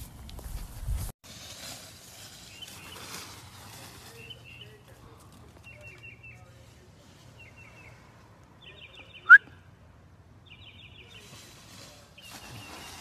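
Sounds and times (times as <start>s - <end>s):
rustling: 0.0s - 8.4s, 10.9s - 13.0s
small birds chirping: 2.4s - 13.0s.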